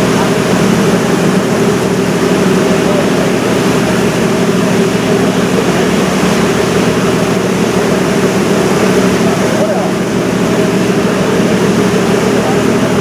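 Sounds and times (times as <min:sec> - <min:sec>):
ship engine droning: 0:00.0 - 0:13.0.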